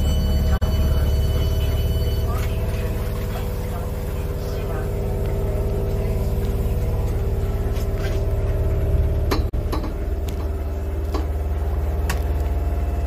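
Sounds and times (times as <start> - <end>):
train carriage rumble and hum: 0.0 - 13.0.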